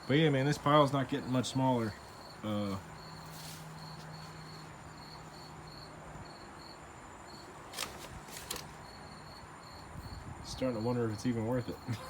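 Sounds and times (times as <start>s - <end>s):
insect chirping: 0.0s - 7.7s, 8.6s - 12.0s.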